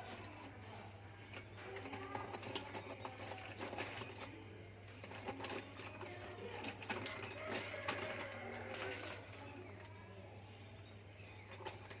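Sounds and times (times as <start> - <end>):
tools clicking on metal parts: 0.0 - 9.9, 11.4 - 12.0.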